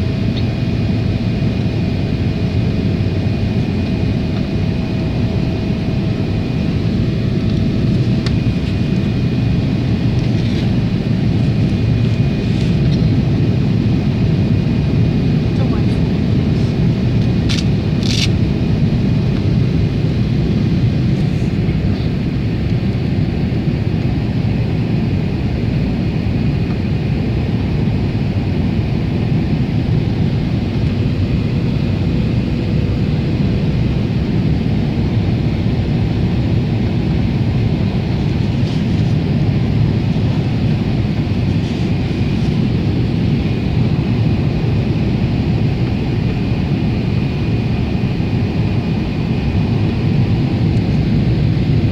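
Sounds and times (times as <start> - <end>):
airplane cabin engine roar: 0.0 - 51.9.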